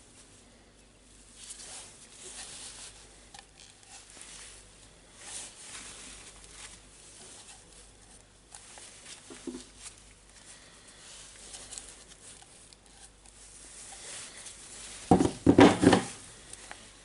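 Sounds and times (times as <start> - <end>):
scratchy rubbing and rustling: 1.2 - 17.0.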